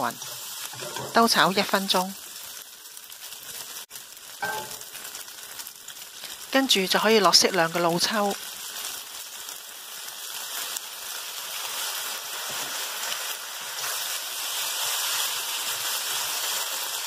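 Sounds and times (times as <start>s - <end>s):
noodles sizzling in a wok: 0.0s - 17.0s.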